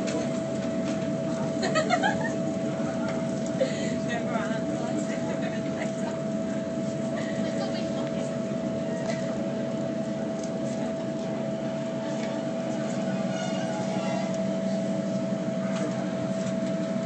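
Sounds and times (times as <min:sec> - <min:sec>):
train running hum: 0:00.0 - 0:17.0.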